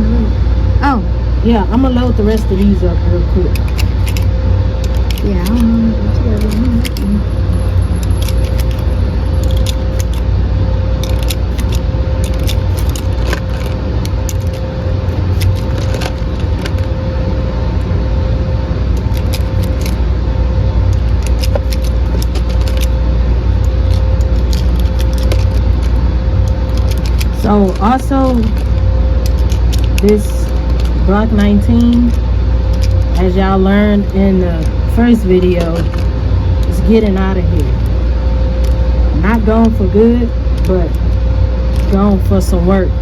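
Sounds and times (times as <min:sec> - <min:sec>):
low hum with faint whine: 0:00.0 - 0:43.0.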